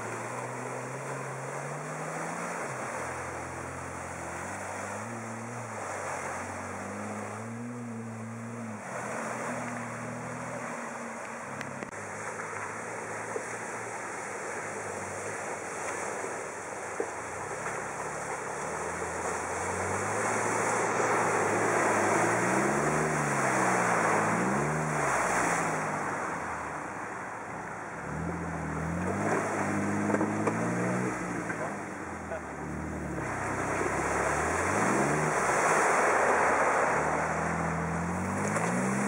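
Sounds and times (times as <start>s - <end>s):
car engine revving: 0.0s - 39.0s
tyres churning muddy water: 0.0s - 39.0s.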